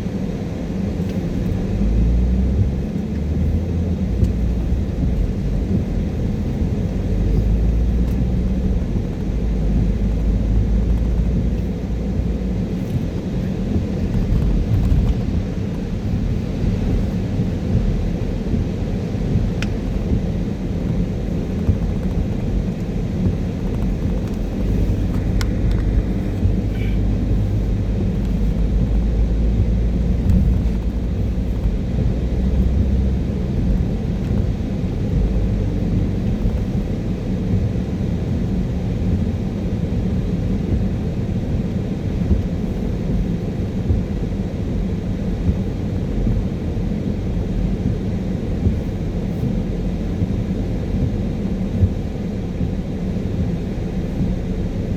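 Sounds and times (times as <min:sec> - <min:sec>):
car tyres on wet road: 0:00.0 - 0:54.9.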